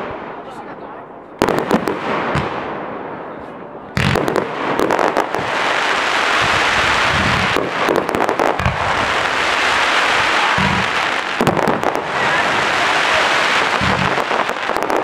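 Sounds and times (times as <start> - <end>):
firework bangs: 1.4 - 3.3, 3.9 - 15.0
steady rush of noise: 2.6 - 15.0.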